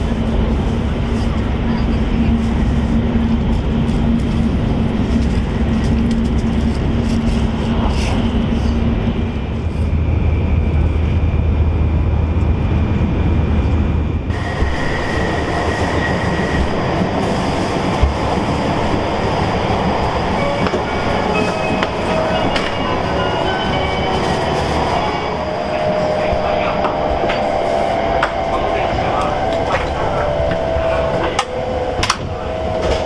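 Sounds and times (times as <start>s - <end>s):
train interior rumble and rush: 0.0s - 33.0s.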